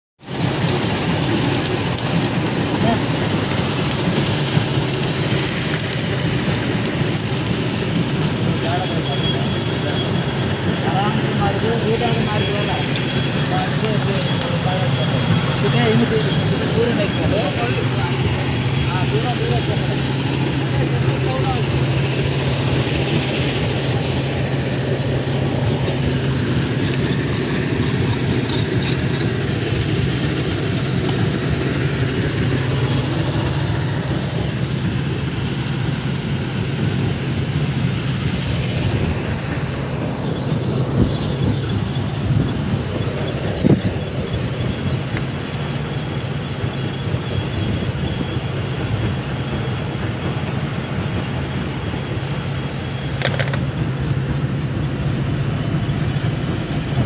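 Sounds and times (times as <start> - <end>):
heavy machinery drone: 0.2 - 57.0.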